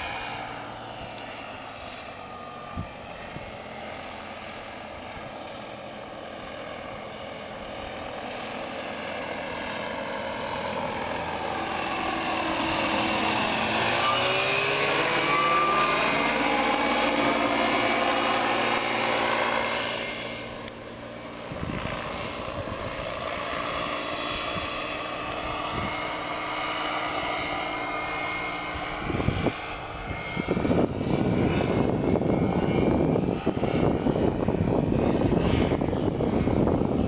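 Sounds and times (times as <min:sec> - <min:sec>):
aircraft engine and propeller: 0:00.0 - 0:37.0.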